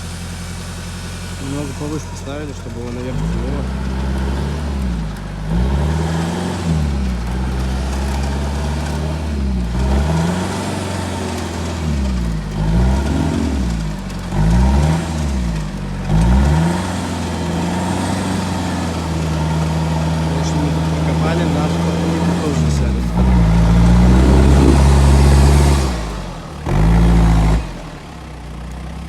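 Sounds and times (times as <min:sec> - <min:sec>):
suv engine revving: 0:00.0 - 0:29.0.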